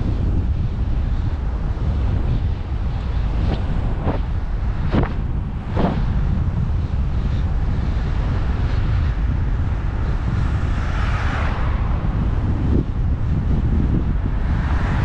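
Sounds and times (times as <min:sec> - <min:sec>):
passing car tyre rush: 0:00.0 - 0:15.0
wind buffeting microphone: 0:00.0 - 0:15.0.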